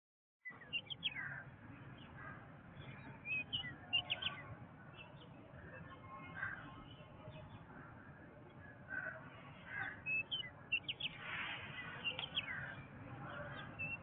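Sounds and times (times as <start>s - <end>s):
birds chirping and calling: 0.5s - 14.0s
low background noise: 0.5s - 14.0s.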